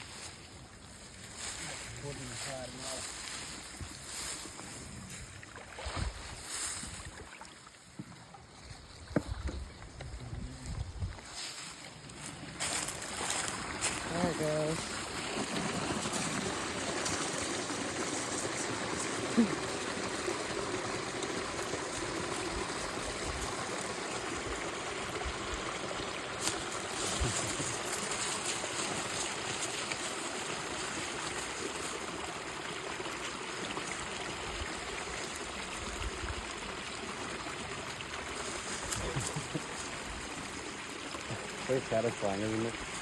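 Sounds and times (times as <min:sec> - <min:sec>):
creek water flowing: 0:00.0 - 0:43.0.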